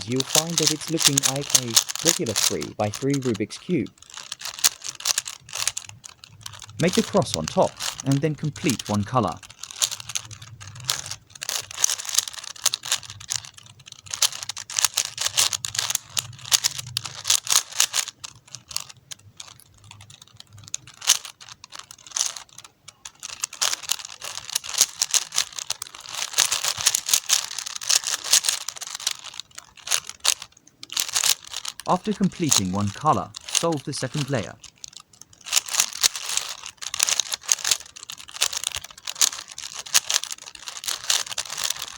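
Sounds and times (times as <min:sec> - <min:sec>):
rubik's cube clicking: 0:00.0 - 0:41.9.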